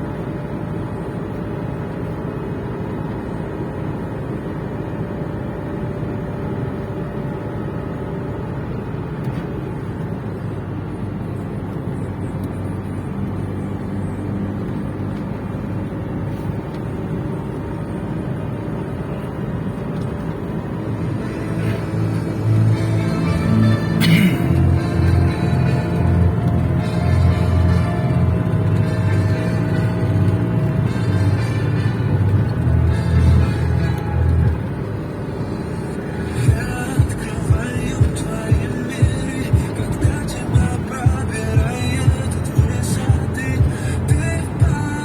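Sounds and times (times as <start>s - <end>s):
vehicle engine running: 0.0s - 45.0s.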